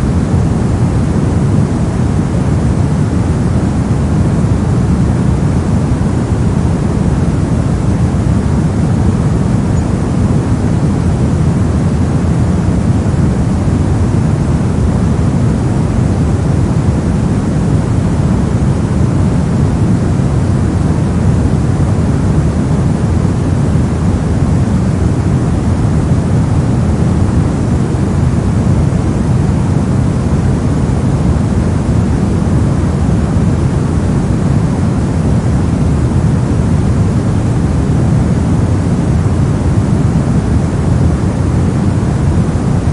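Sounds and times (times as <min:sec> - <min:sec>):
deep rushing noise hiss: 0:00.0 - 0:42.9.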